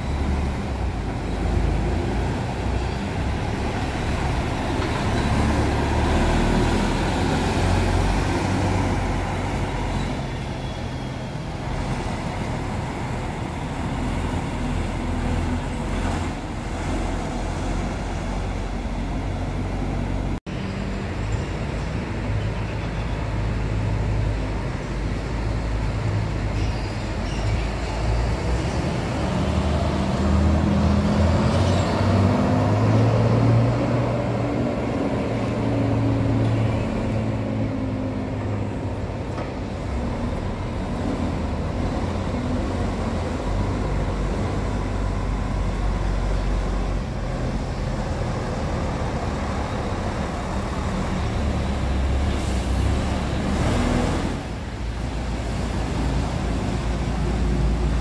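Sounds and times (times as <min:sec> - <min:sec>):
diesel coach engines running: 0:00.0 - 0:58.0.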